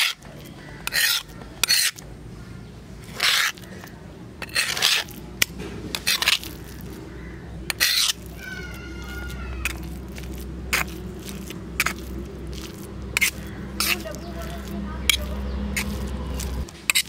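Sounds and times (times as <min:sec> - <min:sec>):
spoon scraping stone slab: 0:00.0 - 0:02.0, 0:03.0 - 0:07.0, 0:07.7 - 0:17.0.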